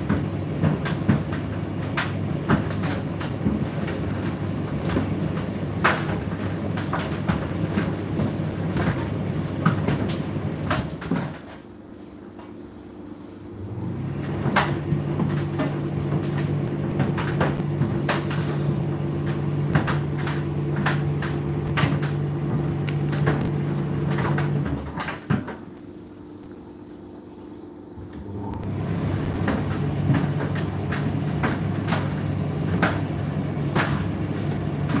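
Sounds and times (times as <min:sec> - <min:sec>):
clothes knocking in dryer drum: 0:00.0 - 0:11.7, 0:13.9 - 0:25.8, 0:28.1 - 0:35.0
tumble dryer motor hum: 0:00.0 - 0:35.0.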